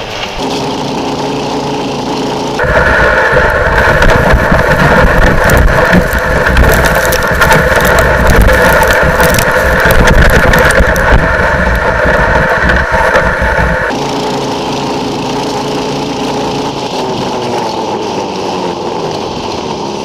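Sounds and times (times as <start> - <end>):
motorized sled engine drone: 0.0 - 20.0.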